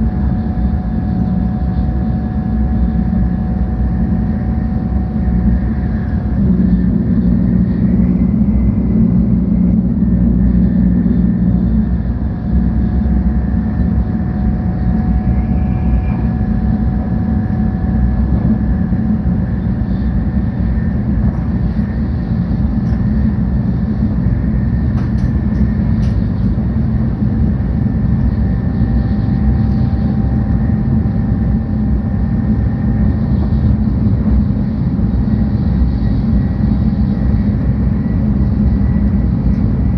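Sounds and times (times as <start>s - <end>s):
faint whines: 0.0s - 39.9s
train cabin rumble: 0.0s - 39.9s.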